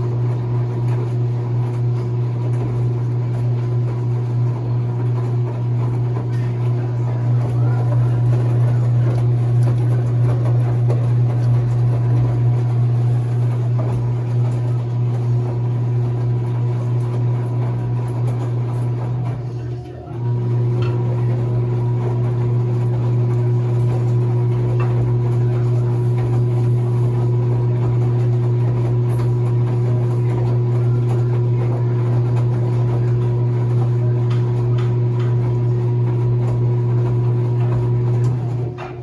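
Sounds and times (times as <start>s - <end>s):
washing machine motor humming: 0.0s - 39.0s.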